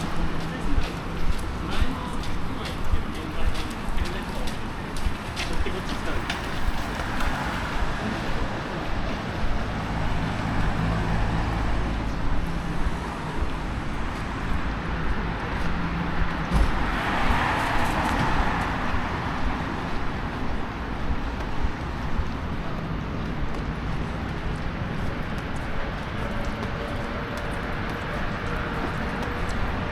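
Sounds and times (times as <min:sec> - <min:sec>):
vehicle engine humming: 0:00.0 - 0:29.9.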